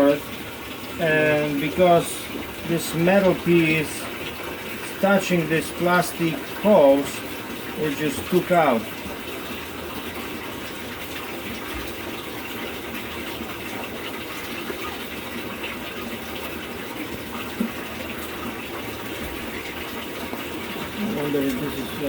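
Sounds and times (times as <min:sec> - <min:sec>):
water rushing in washing machine: 0:00.0 - 0:22.0.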